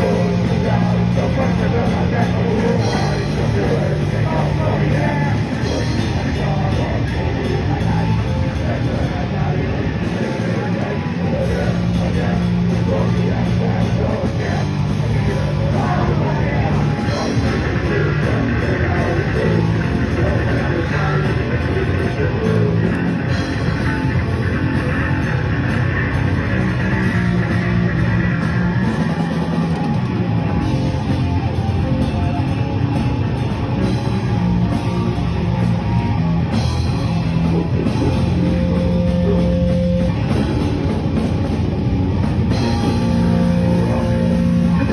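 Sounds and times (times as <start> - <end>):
heavy rock music: 0.0 - 44.9.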